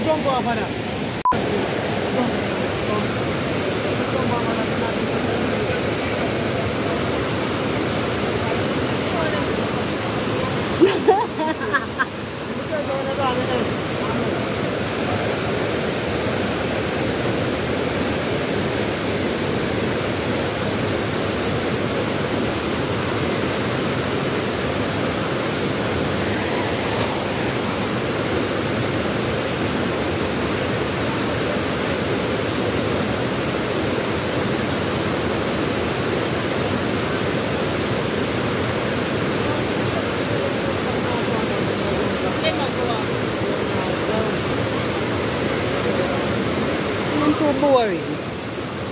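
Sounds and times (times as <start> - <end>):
river water roaring over rocks: 0.0 - 48.9.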